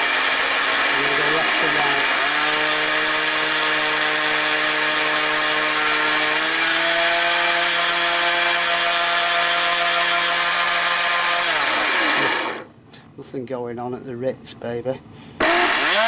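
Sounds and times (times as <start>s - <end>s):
electric motor whining: 0.0s - 12.7s, 15.4s - 16.0s.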